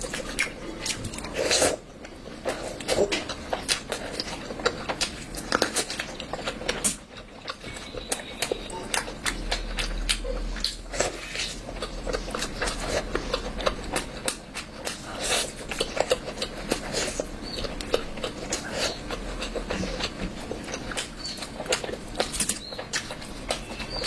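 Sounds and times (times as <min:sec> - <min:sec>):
person chewing and lip smacking: 0:00.0 - 0:24.0.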